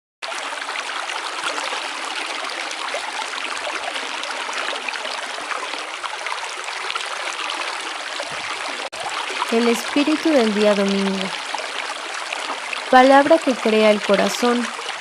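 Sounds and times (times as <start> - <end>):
babbling stream: 0.2 - 15.0
small splashes and trickles: 0.2 - 15.0.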